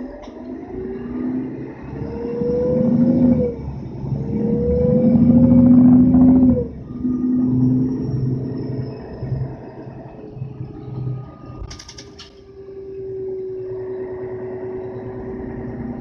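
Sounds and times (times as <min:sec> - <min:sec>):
bus diesel engine accelerating: 0:00.0 - 0:16.0.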